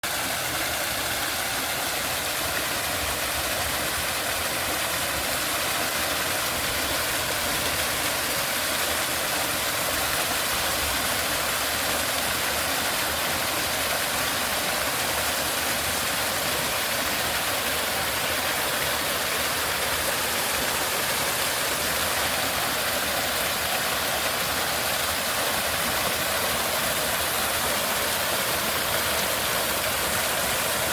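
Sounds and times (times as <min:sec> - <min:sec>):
waterfall pouring and splashing: 0:00.0 - 0:30.9.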